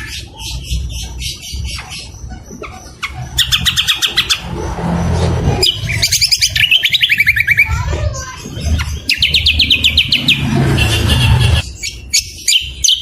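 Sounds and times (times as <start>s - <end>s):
songbirds chattering trills: 0.0s - 13.0s.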